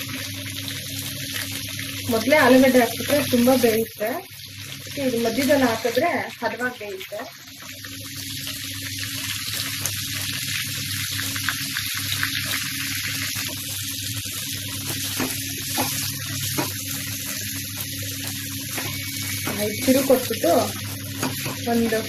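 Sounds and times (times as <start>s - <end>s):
vegetables frying in hot oil: 0.0s - 22.0s.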